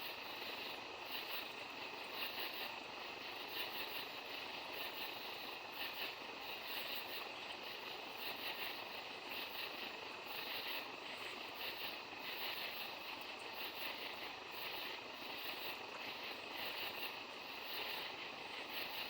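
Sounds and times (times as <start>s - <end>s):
night insects chirring: 0.0s - 19.0s
steady background hiss: 0.0s - 19.0s.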